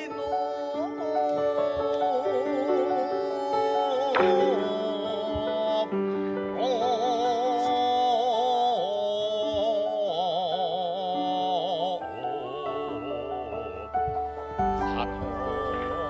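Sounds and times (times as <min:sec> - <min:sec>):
slow melody with vibrato: 0:00.0 - 0:16.0.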